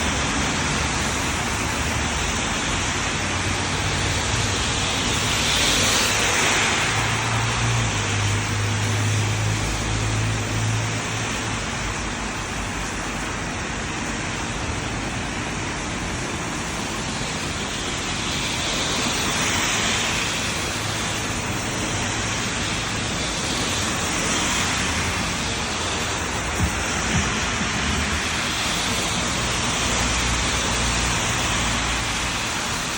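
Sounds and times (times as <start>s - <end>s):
rain and tyres on wet road: 0.0s - 32.9s.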